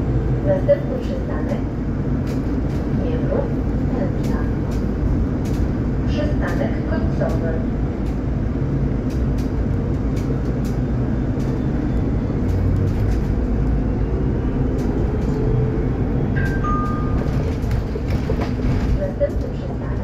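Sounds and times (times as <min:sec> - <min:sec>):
bus drivetrain hum: 0:00.0 - 0:20.0
road rumble: 0:00.0 - 0:20.0
interior rattles and clicks: 0:00.7 - 0:20.0.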